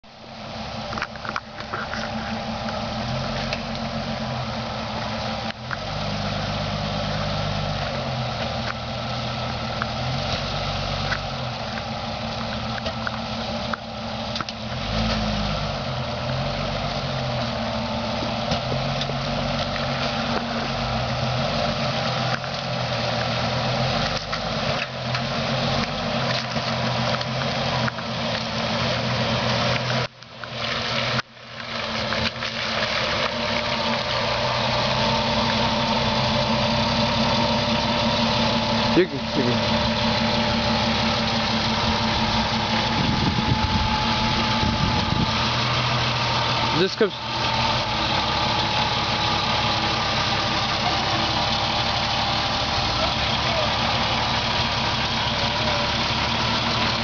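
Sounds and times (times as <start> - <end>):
jeep engine at low revs: 0.0 - 57.0.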